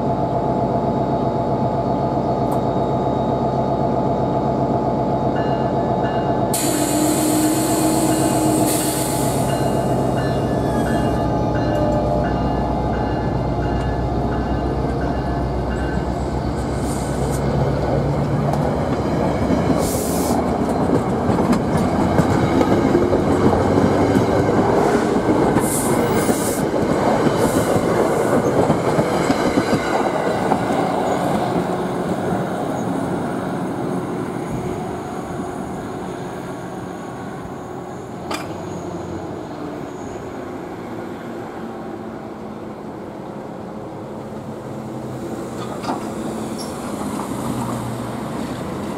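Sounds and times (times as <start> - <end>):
train wheels rumbling on rails: 0.0 - 41.8, 42.6 - 48.9.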